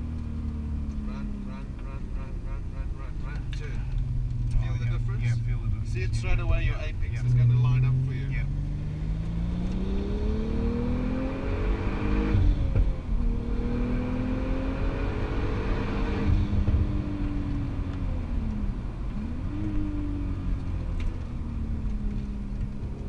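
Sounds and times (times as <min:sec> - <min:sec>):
car engine accelerating through gears: 0:00.0 - 0:23.0.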